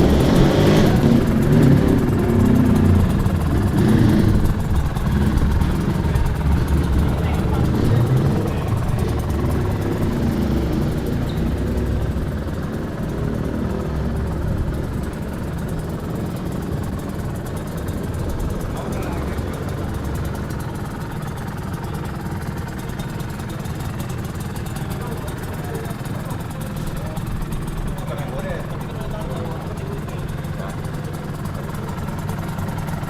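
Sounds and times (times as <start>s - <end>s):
motorcycle engine idling: 0.0s - 33.0s
voices: 0.0s - 33.0s.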